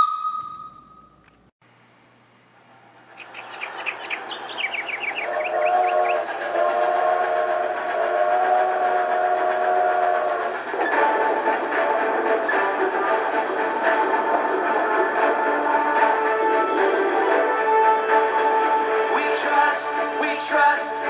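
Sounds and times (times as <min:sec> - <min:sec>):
steam hissing: 0:03.0 - 0:21.0
train whistle chord: 0:03.7 - 0:21.0.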